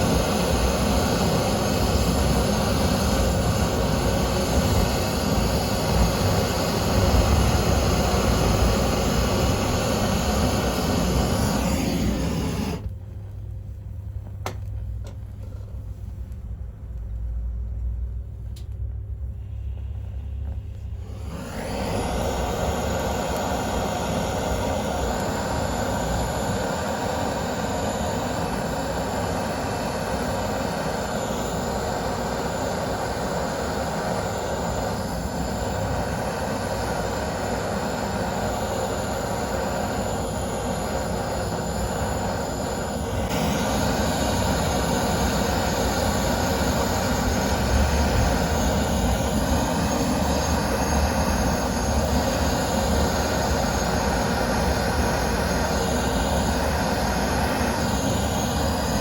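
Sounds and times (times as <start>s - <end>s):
fire roaring: 0.0s - 13.0s, 18.3s - 59.0s.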